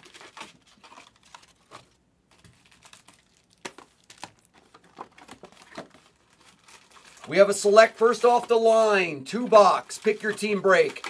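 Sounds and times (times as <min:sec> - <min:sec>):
hands handling shrink-wrapped packs: 0:00.0 - 0:11.0.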